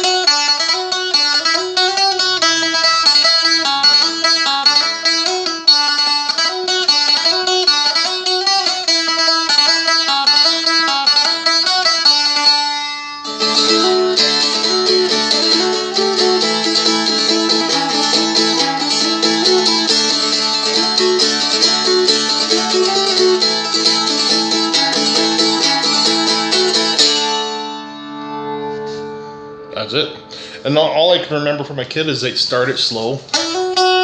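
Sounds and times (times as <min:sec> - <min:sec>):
dulcimer playing a fast jig: 0:00.0 - 0:31.2, 0:33.2 - 0:34.0.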